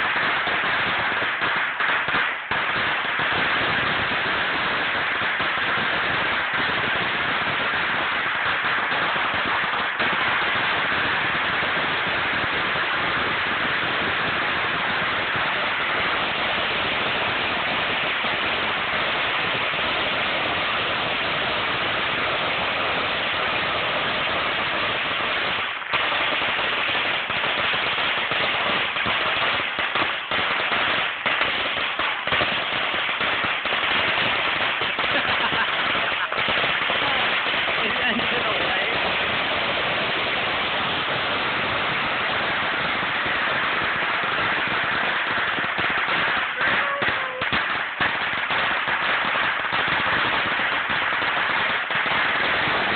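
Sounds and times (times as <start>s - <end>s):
firecrackers going off: 0.0s - 52.9s.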